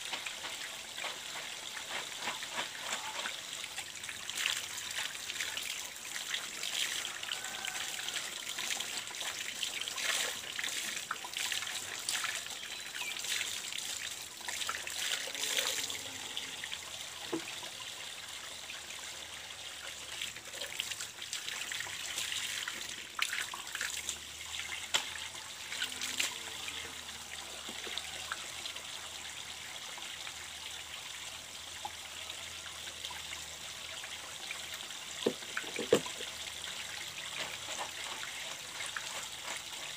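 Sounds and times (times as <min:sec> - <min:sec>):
water splashing from pipe: 0:00.0 - 0:18.2, 0:19.8 - 0:29.0, 0:33.0 - 0:39.9.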